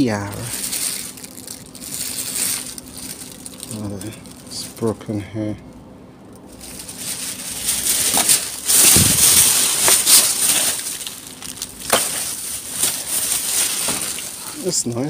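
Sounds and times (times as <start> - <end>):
plastic bag rustling: 0.0 - 5.0, 6.4 - 15.0.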